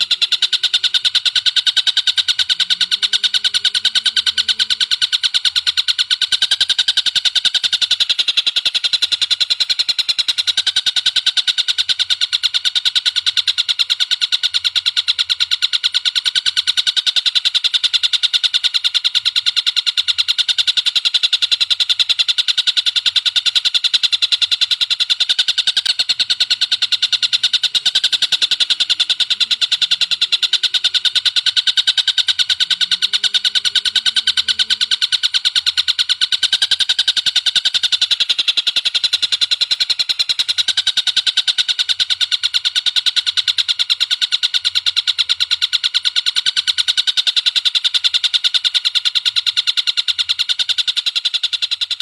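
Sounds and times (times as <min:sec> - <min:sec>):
high sharp bird calls: 0:00.0 - 0:18.2, 0:18.8 - 0:45.2.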